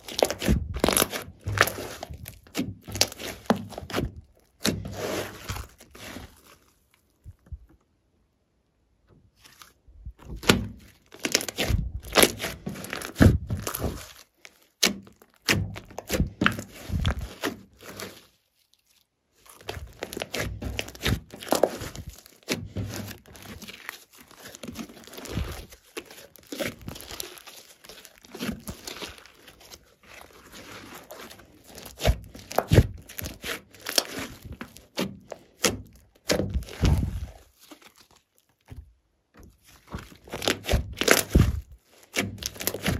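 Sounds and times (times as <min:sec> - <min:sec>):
slime crackling and squelching: 0:00.0 - 0:08.0, 0:09.3 - 0:42.9.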